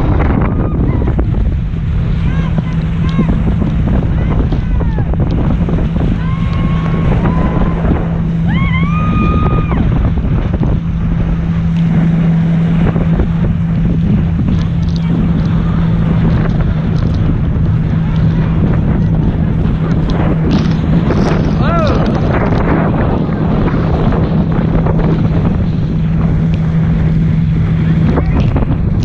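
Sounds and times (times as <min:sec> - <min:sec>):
motorboat engine droning: 0:00.0 - 0:29.0
water rushing: 0:00.0 - 0:29.0
wind buffeting microphone: 0:00.0 - 0:29.0.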